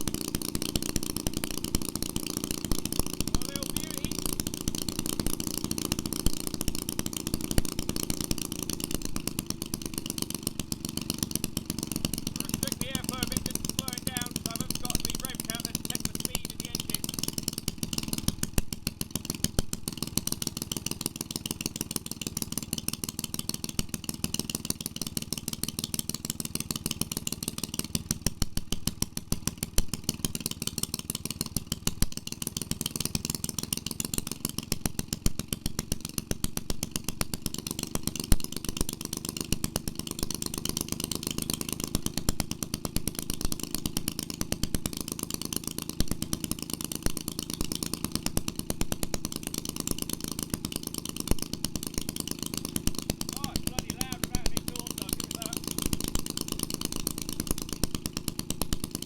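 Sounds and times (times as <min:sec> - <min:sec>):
engine popping: 0:00.0 - 0:24.4, 0:35.1 - 0:59.0
two-stroke engine running: 0:00.0 - 0:59.0.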